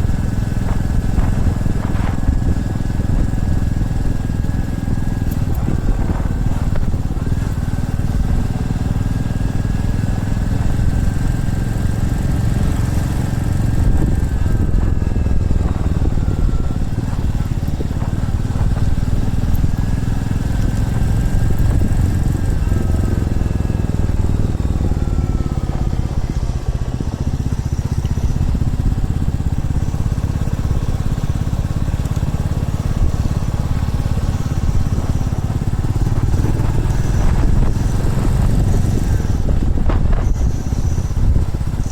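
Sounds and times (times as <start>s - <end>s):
motorcycle engine riding: 0.0s - 41.9s
steady low rumble: 0.0s - 41.9s.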